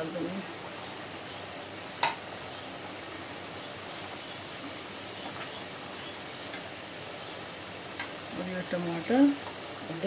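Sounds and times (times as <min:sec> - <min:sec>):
soft sizzle in a pot: 0:00.0 - 0:10.0.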